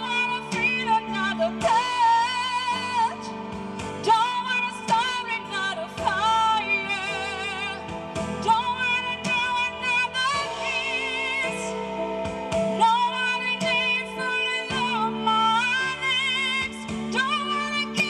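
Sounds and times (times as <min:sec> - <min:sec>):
instrumental accompaniment: 0:00.0 - 0:18.0
woman singing with vibrato: 0:00.0 - 0:18.0.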